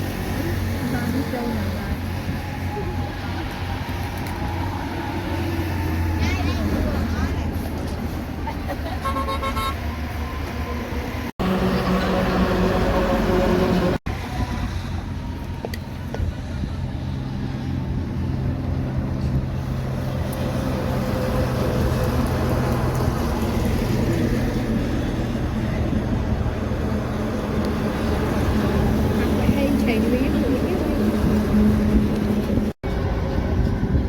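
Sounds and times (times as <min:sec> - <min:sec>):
truck engine drone: 0:00.0 - 0:34.0
tyre and road noise: 0:00.0 - 0:34.0.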